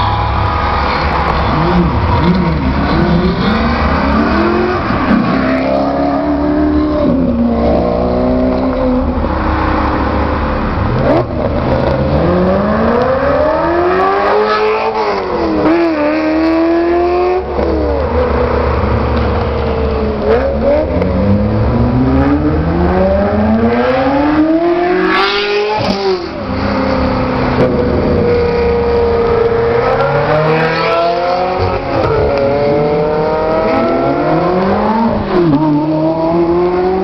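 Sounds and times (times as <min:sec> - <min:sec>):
sports car engines revving: 0:00.0 - 0:37.0
street traffic: 0:00.0 - 0:37.0.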